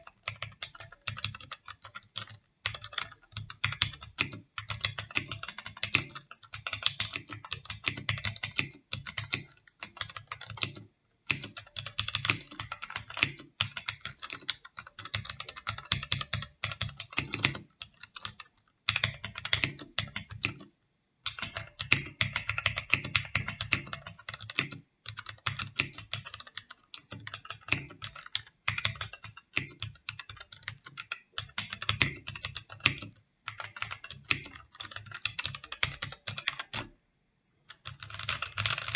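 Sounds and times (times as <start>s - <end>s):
fast typing on mechanical keyboard: 0.0s - 36.9s, 37.7s - 38.9s.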